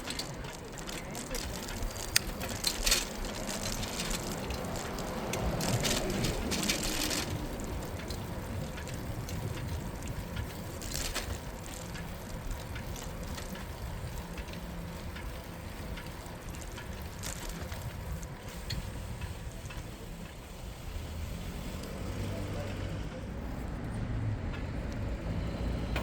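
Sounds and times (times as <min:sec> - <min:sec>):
bicycle tyres rolling: 0:00.0 - 0:26.0
traffic rumble: 0:00.0 - 0:26.0.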